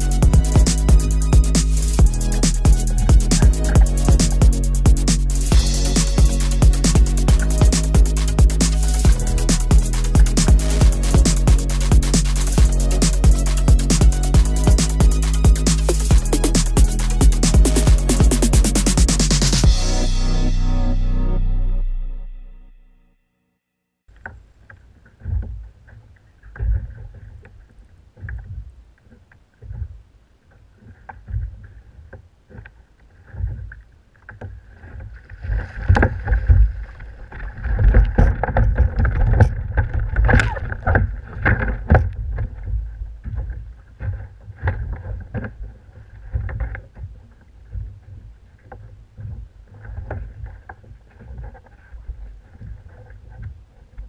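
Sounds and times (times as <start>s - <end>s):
water splashing against kayak hull: 0.0s - 18.5s, 24.1s - 54.0s.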